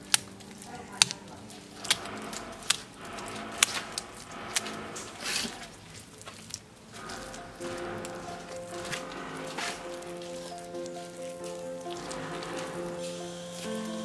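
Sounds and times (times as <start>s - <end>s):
wet clay squishing smear: 0.0s - 14.0s.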